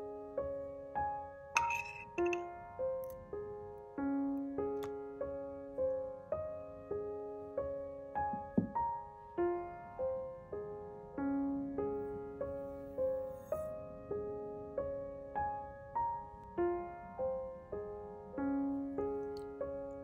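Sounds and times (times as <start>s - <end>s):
soft solo piano music: 0.0s - 20.0s.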